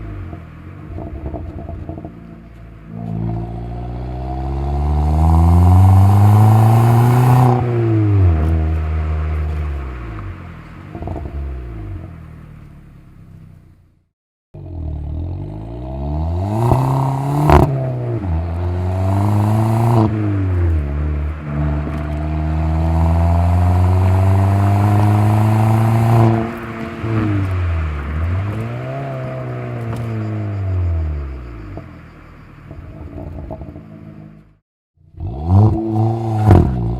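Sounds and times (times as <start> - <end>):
exhaust pop: 0.0 - 3.8, 5.8 - 13.2, 16.4 - 34.5, 35.6 - 36.9
car engine accelerating: 0.0 - 14.0, 14.6 - 36.9.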